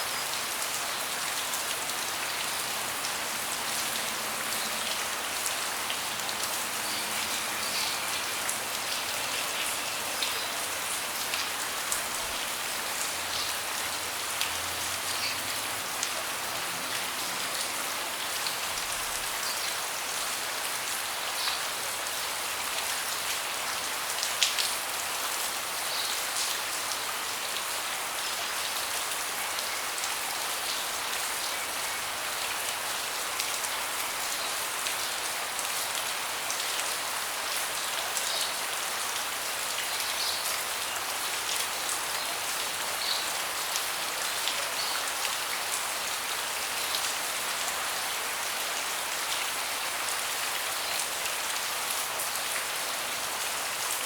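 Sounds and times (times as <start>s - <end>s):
rain falling on a deck: 0.0s - 54.0s.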